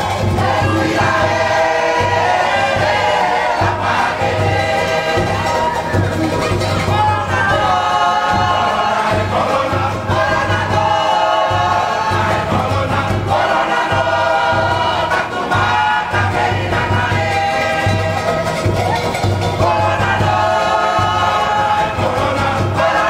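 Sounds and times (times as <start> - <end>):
choir singing in harmony: 0.0 - 23.0
steady low drum beat: 0.0 - 23.0.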